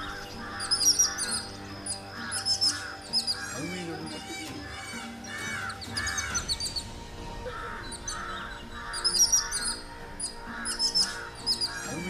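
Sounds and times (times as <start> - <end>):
harsh rasping bird calls: 0.0 - 12.0
high bird chirps: 0.0 - 12.0.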